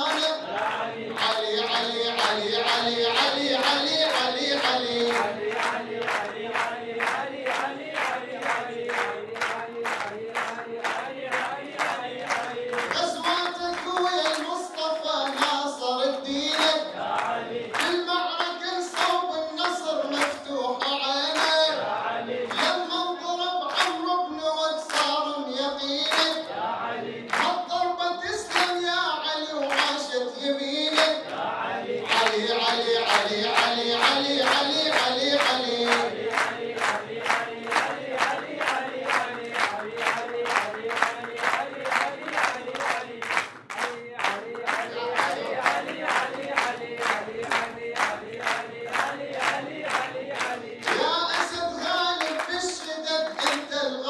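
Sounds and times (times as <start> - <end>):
audience clapping to a beat: 0.0 - 54.0
group chanting a devotional song: 0.0 - 54.0.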